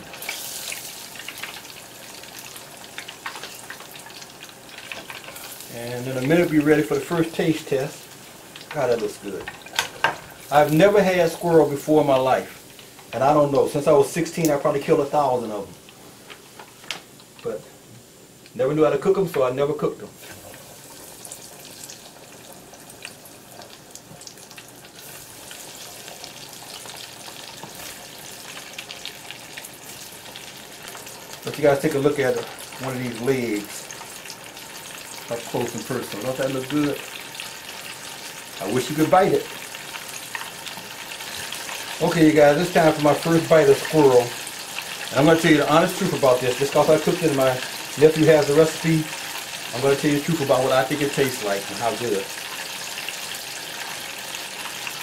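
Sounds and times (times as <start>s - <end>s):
oil sizzling in deep fryer: 0.0s - 55.0s.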